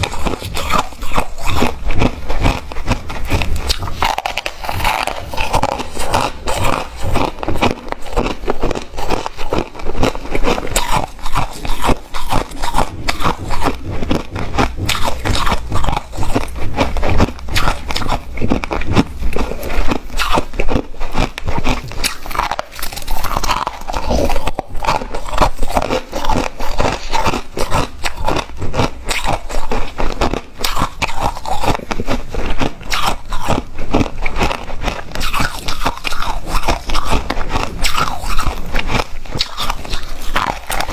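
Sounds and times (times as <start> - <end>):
person crunching ice: 0.0 - 40.9.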